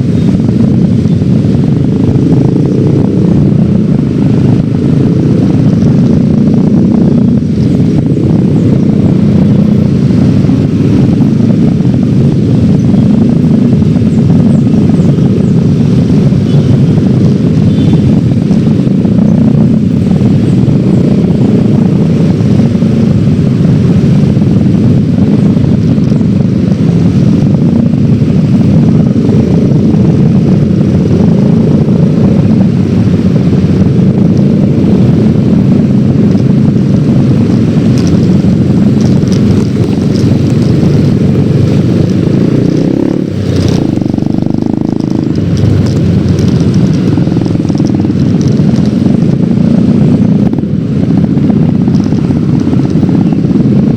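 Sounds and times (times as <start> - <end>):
scooter engine running: 0.0 - 53.9
wind rush on microphone: 0.0 - 53.9.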